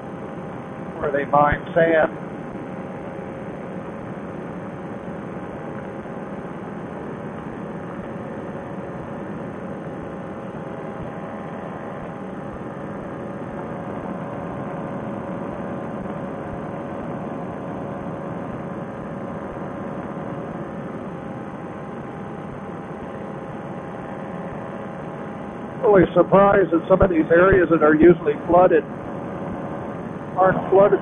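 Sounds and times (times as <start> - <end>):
paramotor engine drone: 0.0 - 31.0.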